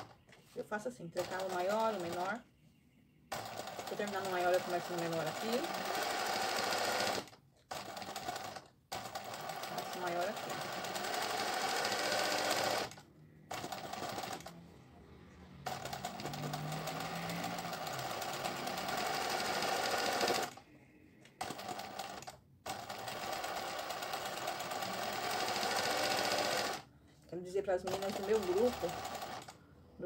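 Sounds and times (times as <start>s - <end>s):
sewing machine stitching: 1.2s - 2.4s, 3.3s - 14.6s, 15.6s - 20.6s, 21.4s - 26.9s, 27.8s - 29.6s.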